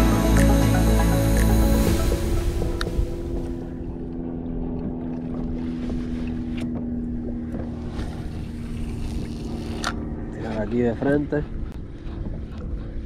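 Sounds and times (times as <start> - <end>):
electric motor hum: 0.0 - 12.9.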